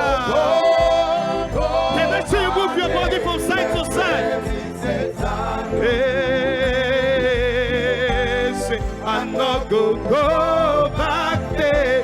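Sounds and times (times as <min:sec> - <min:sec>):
instrumental backing: 0:00.0 - 0:12.0
person singing gospel: 0:00.0 - 0:12.0.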